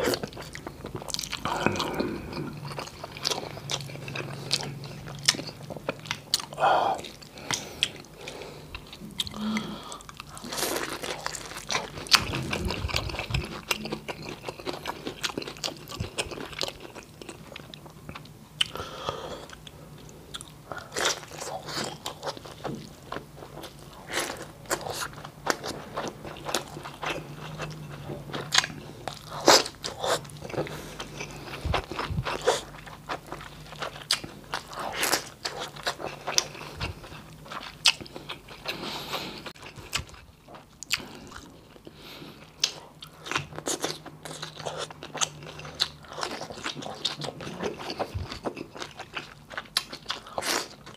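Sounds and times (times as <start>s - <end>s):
person chewing and smacking: 0.0s - 50.9s.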